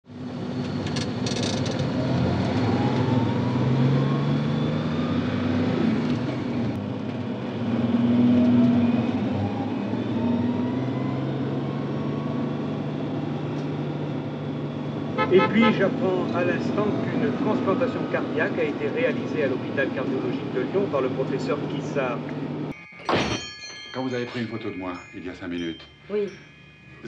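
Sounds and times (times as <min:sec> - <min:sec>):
car engines accelerating: 0:00.1 - 0:22.7.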